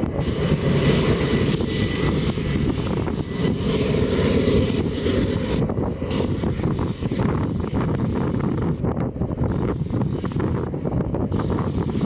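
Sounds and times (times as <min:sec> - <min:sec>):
diesel locomotive engine working hard: 0:00.0 - 0:12.0.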